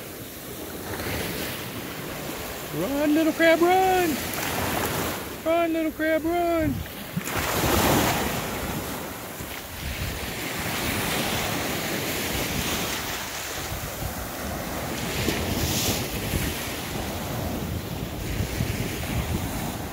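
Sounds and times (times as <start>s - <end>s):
small waves breaking on sand: 0.0s - 19.9s
wind buffeting microphone: 0.4s - 19.9s.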